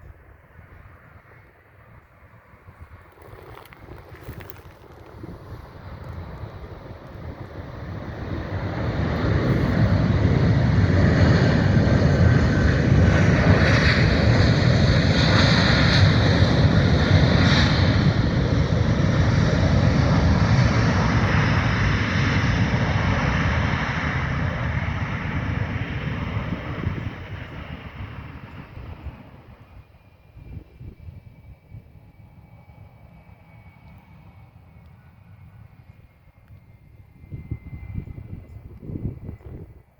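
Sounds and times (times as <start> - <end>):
jet airliner engines landing: 0.0 - 39.9.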